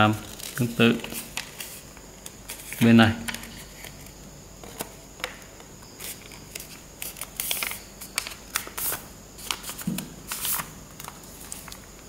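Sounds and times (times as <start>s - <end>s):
paper being folded and crinkling: 0.0s - 5.4s, 6.0s - 12.0s.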